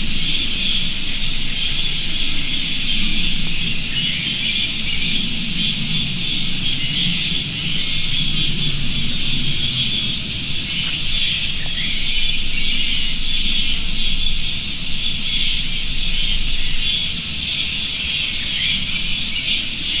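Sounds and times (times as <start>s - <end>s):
chorus of small birds chirping: 0.0s - 20.0s.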